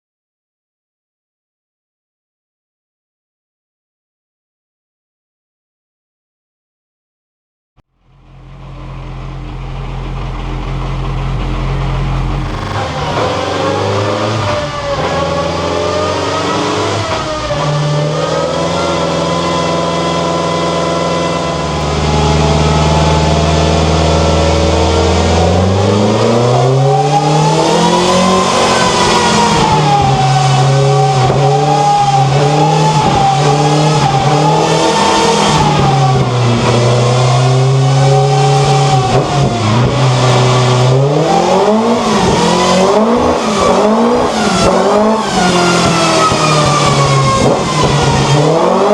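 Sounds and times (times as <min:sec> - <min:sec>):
rally car engine under load: 0:07.8 - 0:48.9.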